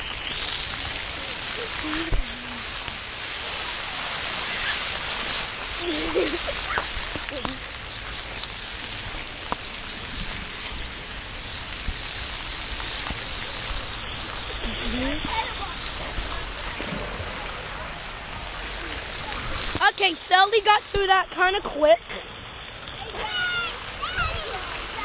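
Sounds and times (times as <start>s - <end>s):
water splashing on camera housing: 0.0s - 21.7s
water jets hissing: 0.0s - 25.0s.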